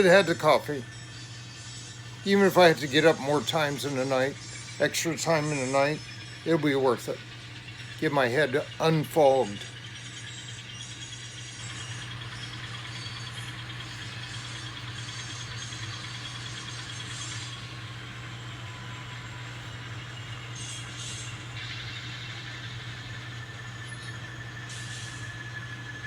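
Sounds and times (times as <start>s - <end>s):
model train motor hum: 0.0s - 26.0s.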